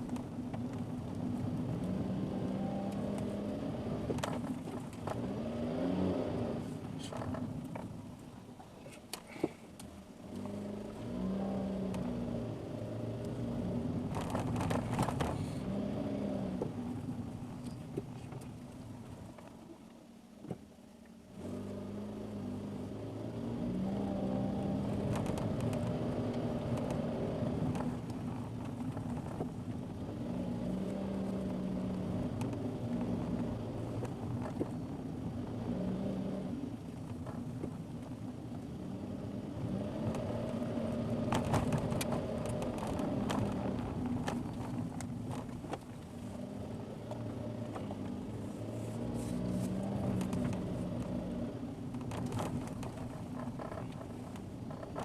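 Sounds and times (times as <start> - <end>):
car engine running: 0.0 - 55.0
tyre and road noise: 0.0 - 55.0.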